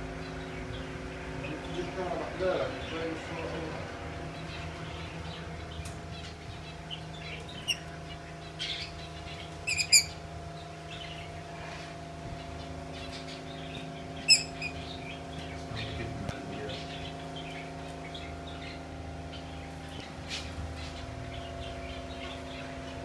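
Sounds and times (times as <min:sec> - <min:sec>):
caged birds chirping: 0:00.0 - 0:23.0
steady low hum: 0:00.0 - 0:23.0.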